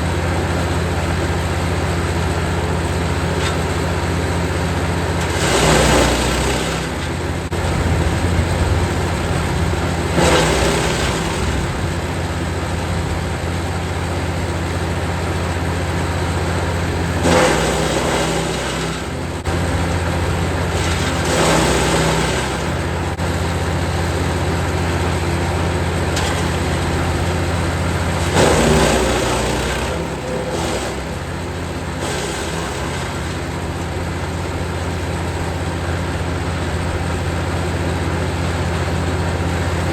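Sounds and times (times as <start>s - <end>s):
wood chipper engine hum: 0.0s - 39.9s
branches crackling in chipper: 4.4s - 39.2s.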